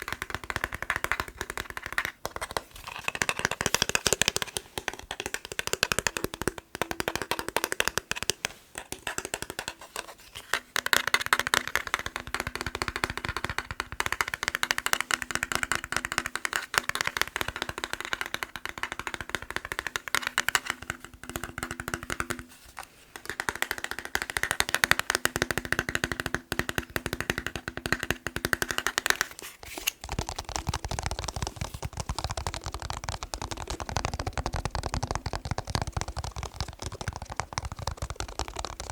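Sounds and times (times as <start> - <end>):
fast tapping on plastic remote: 0.0 - 22.5, 23.1 - 38.9.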